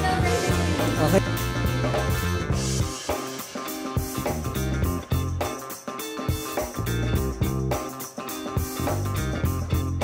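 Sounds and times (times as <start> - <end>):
background music with guitar and beat: 0.0 - 10.0.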